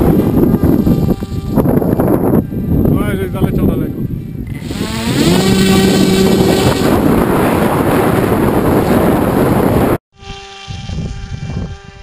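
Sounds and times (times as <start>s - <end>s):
electric propeller buzzing: 0.0s - 2.7s, 4.5s - 12.0s
wind rushing over microphone: 0.0s - 12.0s.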